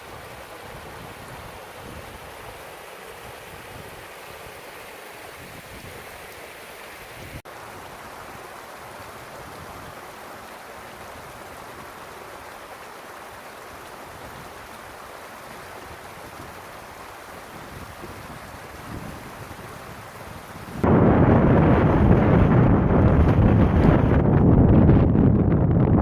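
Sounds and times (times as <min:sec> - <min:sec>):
rain: 0:00.0 - 0:25.7
wind: 0:00.0 - 0:26.0.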